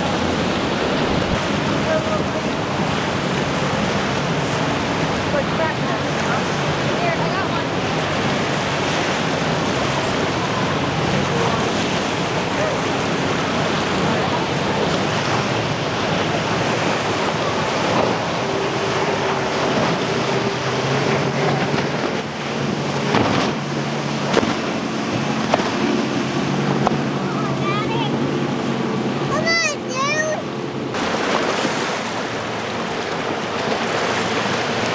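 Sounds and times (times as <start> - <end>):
breaking surf: 0.0 - 34.9
outboard motor hum: 0.0 - 34.9
wind buffeting microphone: 0.0 - 34.9.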